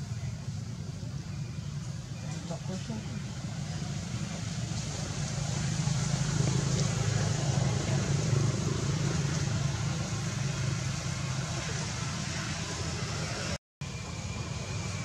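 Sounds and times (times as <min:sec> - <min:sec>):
motor engine rumble: 0:00.0 - 0:15.0.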